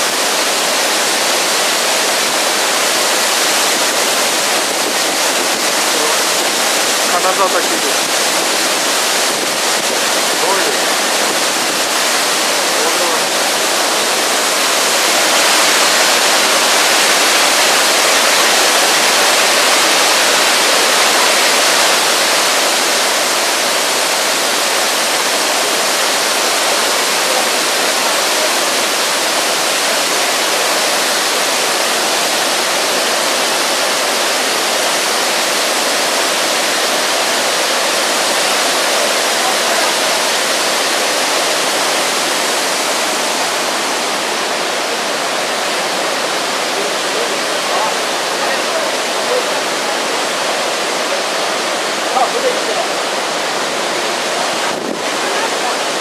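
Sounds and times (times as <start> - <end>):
waterfall crashing: 0.0 - 56.0.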